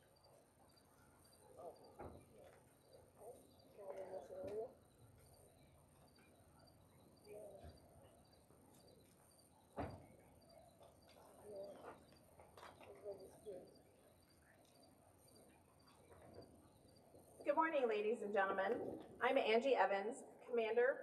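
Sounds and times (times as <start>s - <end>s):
faint insect chirping: 0.0s - 17.9s.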